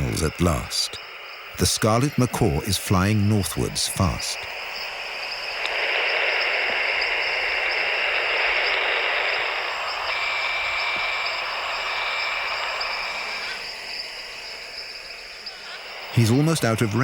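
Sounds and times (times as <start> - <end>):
insect chorus hiss: 0.0 - 17.0
pulsing high insect buzz: 0.0 - 17.0
thin sustained insect whine: 0.0 - 17.0.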